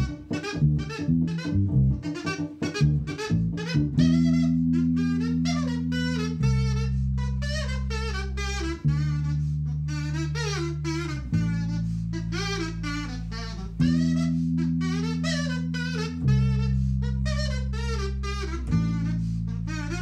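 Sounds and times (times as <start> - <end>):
electric bass guitar: 0.0 - 20.0
kazoo buzzing melody: 0.0 - 20.0.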